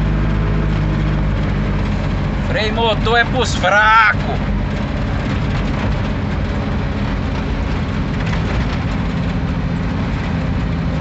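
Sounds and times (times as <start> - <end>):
road rumble and rattle: 0.0 - 11.0
truck diesel engine running: 0.0 - 11.0.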